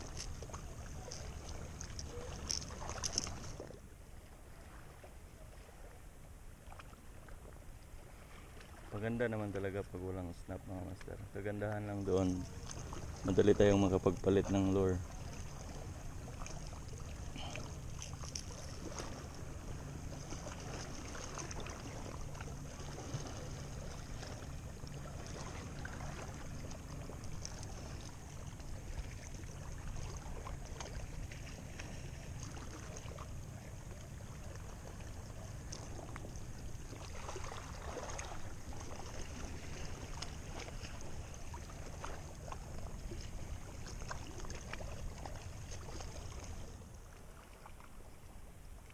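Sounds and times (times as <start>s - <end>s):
calm sea at the shore: 0.0s - 48.9s.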